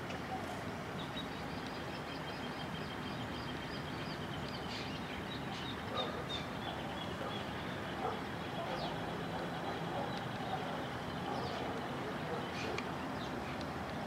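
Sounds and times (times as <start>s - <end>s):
bird chirping: 1.0s - 13.6s.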